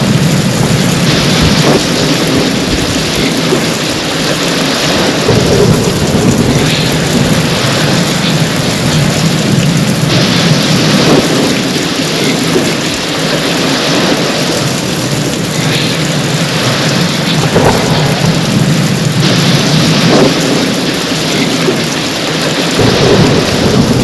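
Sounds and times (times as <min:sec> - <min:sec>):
heavy rain pouring: 0:00.0 - 0:24.0
low rumble of thunder: 0:00.0 - 0:24.0.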